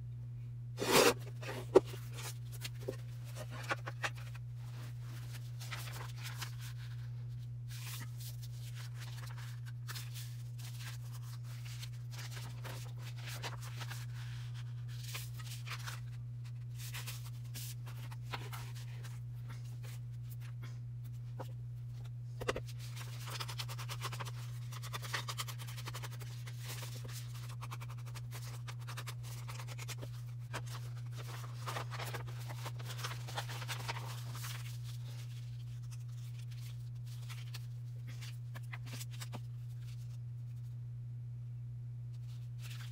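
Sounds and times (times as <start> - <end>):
steady low hum: 0.0 - 42.9
paper rustling: 0.8 - 40.2.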